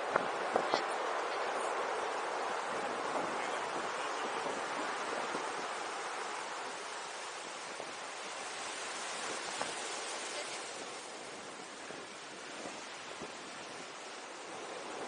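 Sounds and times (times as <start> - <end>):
surf breaking on rocks: 0.0 - 15.0.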